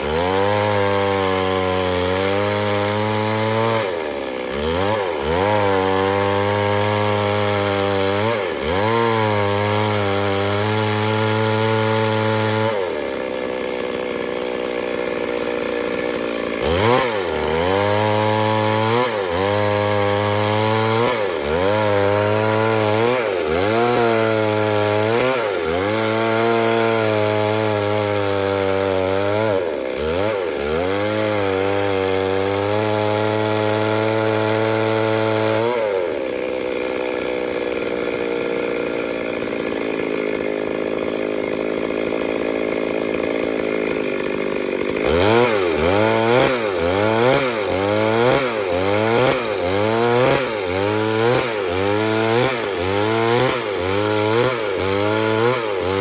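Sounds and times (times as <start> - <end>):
chainsaw cutting wood: 0.0 - 56.0
steady rasping sound: 0.0 - 56.0.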